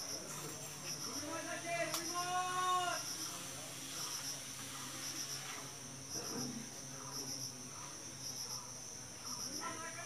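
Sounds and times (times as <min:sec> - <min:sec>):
insects trilling and chirping: 0:00.0 - 0:10.0.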